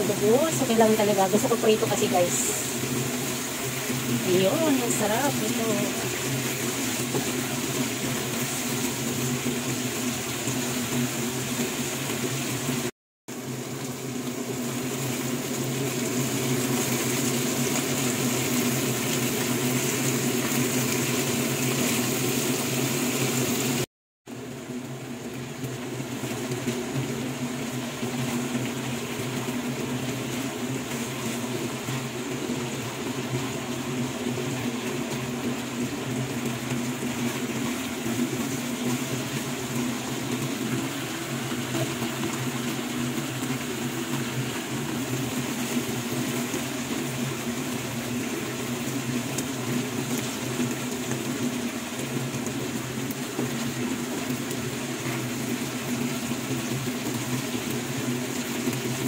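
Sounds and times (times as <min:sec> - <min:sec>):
livers sizzling in hot oil: 0:00.0 - 0:59.0.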